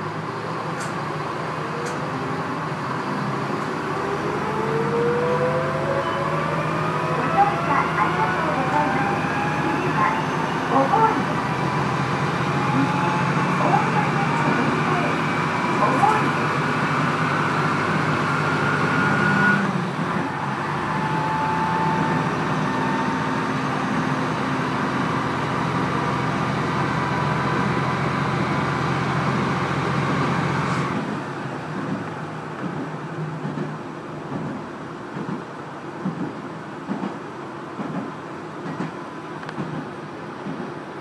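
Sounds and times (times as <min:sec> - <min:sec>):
railcar engine drone: 0:00.0 - 0:41.0.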